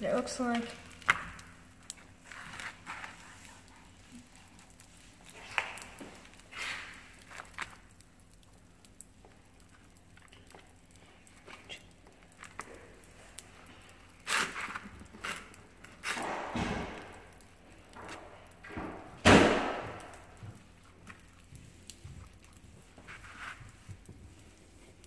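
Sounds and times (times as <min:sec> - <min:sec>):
hands squelching shaving cream: 0:00.2 - 0:18.7, 0:19.4 - 0:25.0.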